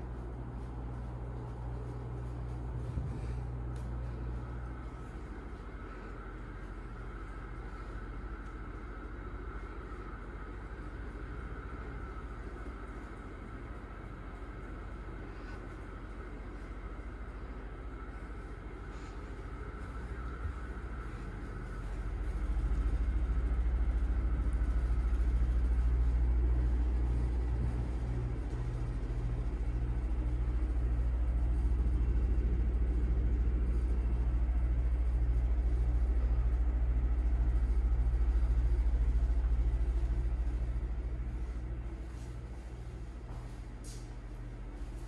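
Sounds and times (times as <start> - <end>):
heavy machine rumbling: 0.0 - 45.0.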